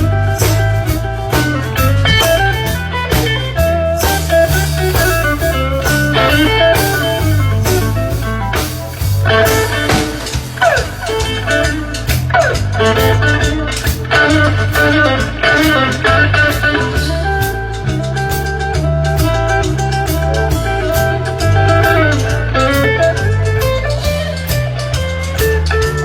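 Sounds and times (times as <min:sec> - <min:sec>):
blues rock band playing: 0:00.0 - 0:26.0.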